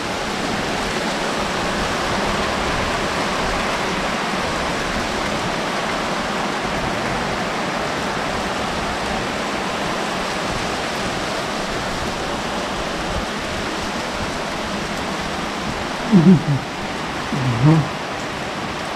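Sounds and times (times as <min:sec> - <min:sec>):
heavy rain and hail: 0:00.0 - 0:18.9.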